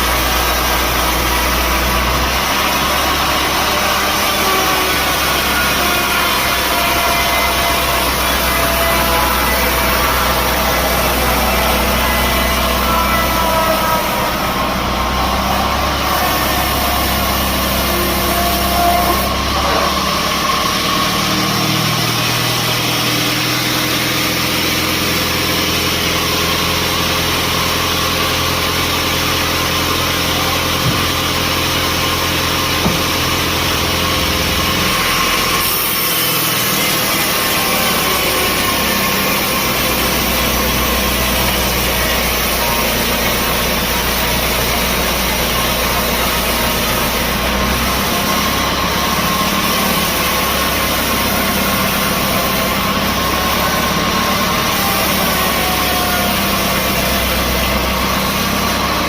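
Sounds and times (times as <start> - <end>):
sawmill machinery engine running: 0.0 - 59.0.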